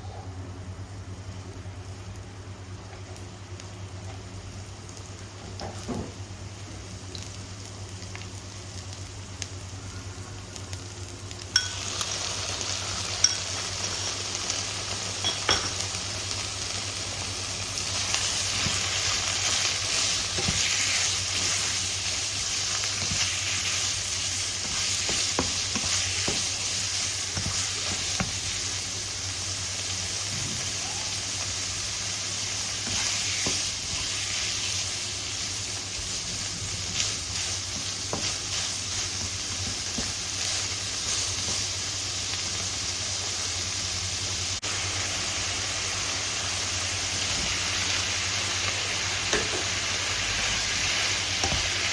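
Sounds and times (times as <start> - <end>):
food sizzling in a pan: 0.8 - 51.9.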